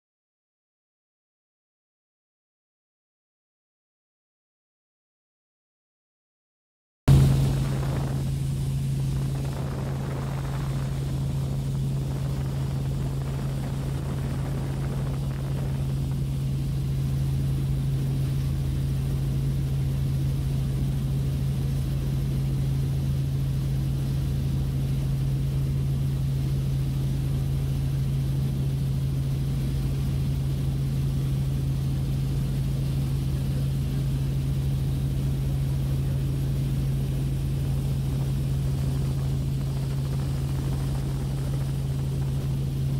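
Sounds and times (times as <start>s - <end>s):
helicopter rotor and engine drone: 7.1s - 42.9s.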